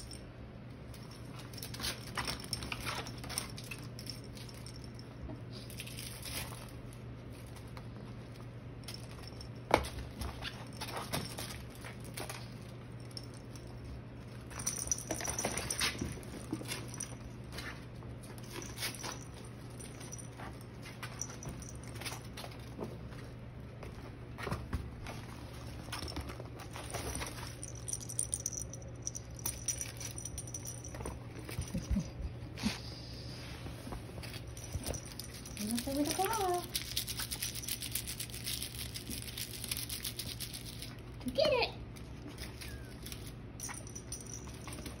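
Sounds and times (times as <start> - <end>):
steady low hum: 0.0 - 45.0
kittens' paws scuffling: 0.8 - 45.0.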